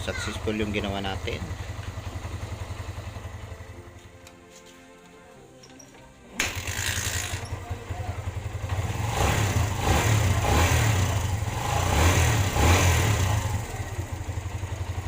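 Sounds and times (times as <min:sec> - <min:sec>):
motorcycle engine revving: 0:00.0 - 0:03.7, 0:06.4 - 0:15.0.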